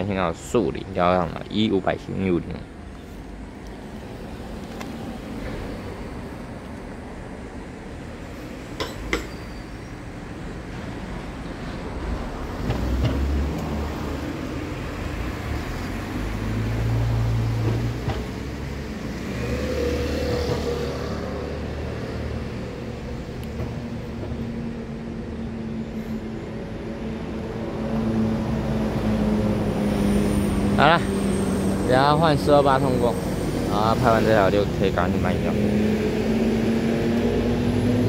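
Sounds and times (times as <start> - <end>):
low rumble of vehicle engines: 0.0 - 38.0.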